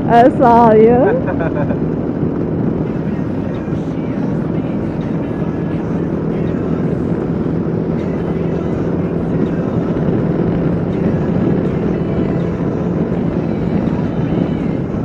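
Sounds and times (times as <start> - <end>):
motorcycle engine running: 0.0 - 15.0
road noise: 0.0 - 15.0
wind rushing: 0.0 - 15.0.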